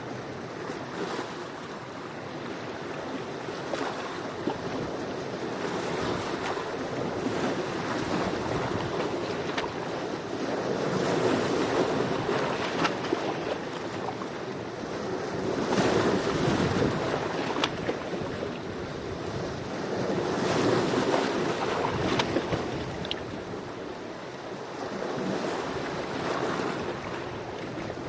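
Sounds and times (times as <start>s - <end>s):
sea waves washing onto shore: 0.0s - 28.0s.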